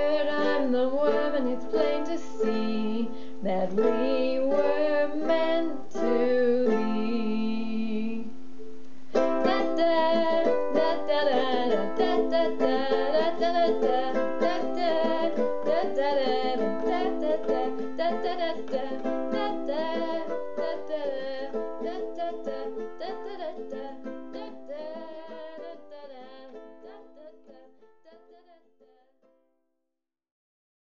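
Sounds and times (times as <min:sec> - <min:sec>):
person singing wordless vocals: 0:00.0 - 0:08.4, 0:09.2 - 0:29.1
strummed ukulele: 0:00.0 - 0:29.4.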